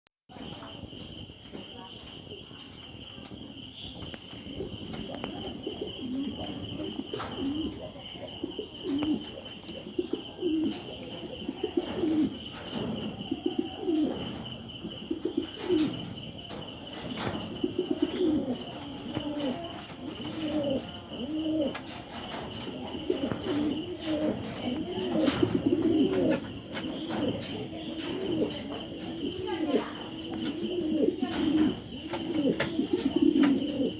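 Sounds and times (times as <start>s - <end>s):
high insect chirring: 0.4s - 33.9s
pigeons cooing: 4.0s - 33.9s.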